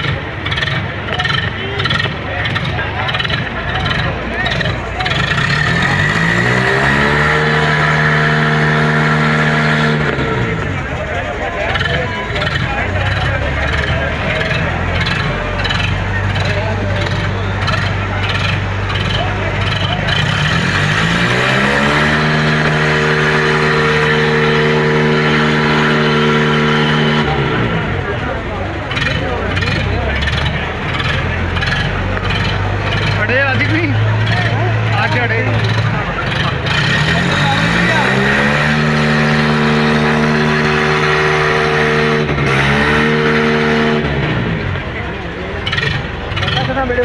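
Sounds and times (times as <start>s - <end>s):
tractor diesel engine revving: 0.0s - 47.0s.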